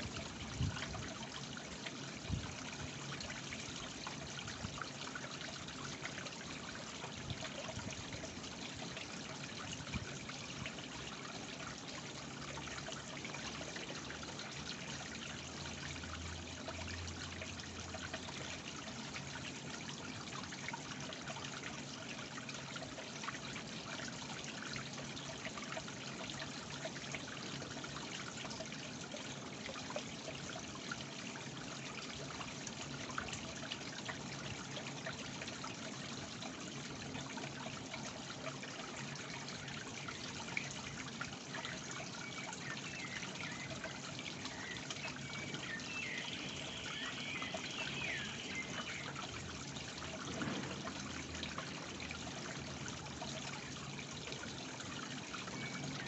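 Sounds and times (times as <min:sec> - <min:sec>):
small waterfall trickling into pond: 0:00.0 - 0:56.0.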